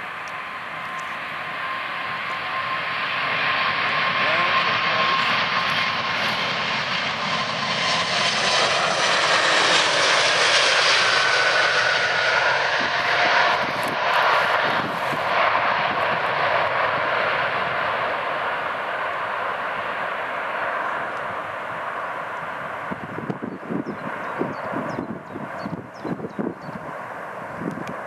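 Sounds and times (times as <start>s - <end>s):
jet engines roaring: 0.0s - 28.0s.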